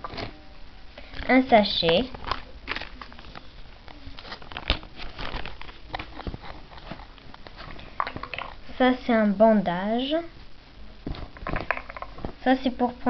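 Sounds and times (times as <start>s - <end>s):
rustling of small objects: 0.0s - 12.8s.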